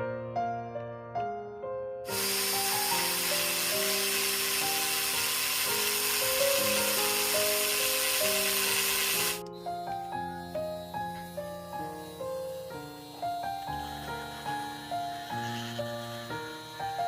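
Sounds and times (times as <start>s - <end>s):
piano music: 0.0s - 17.0s
power tool grinding: 2.1s - 17.0s.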